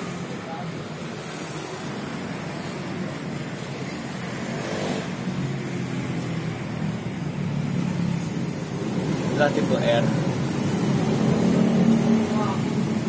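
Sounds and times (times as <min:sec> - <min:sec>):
motor vehicle rumble and hiss: 0:00.0 - 0:13.0.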